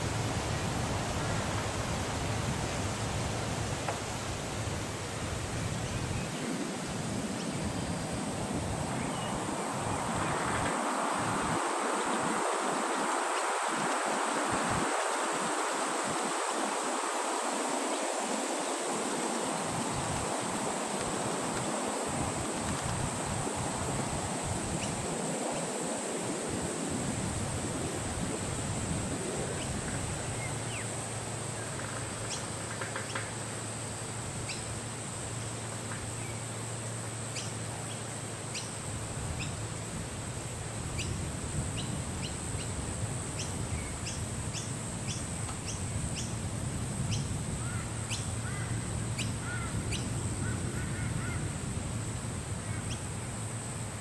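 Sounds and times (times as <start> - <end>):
constant high hiss: 0.0 - 54.0
low rush of wind: 0.0 - 54.0.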